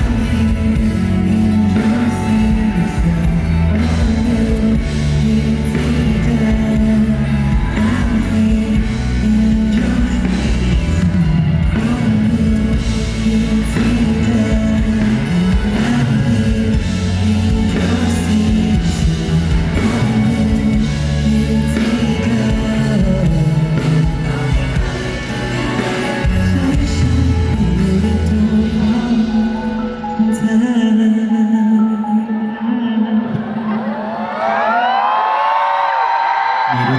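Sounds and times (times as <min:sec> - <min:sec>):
man singing: 0:00.0 - 0:34.8, 0:36.6 - 0:36.9
live pop-rock band: 0:00.0 - 0:36.9.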